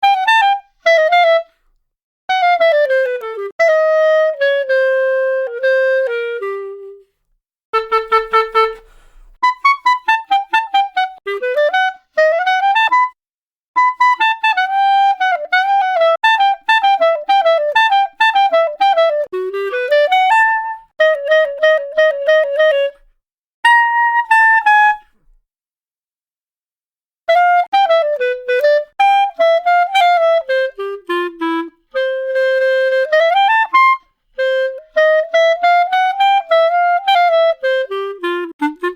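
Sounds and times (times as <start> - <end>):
solo clarinet melody: 0.0 - 25.4, 27.3 - 38.9.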